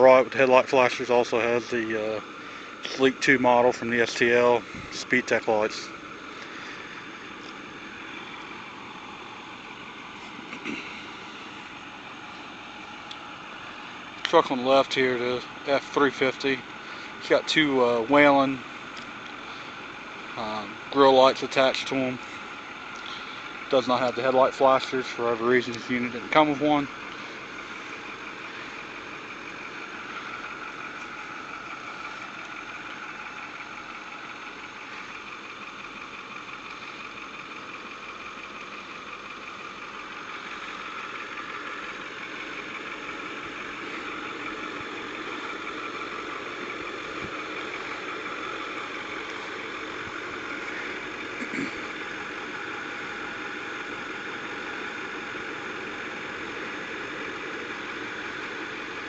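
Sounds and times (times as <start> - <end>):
truck engines idling: 0.0 - 59.0.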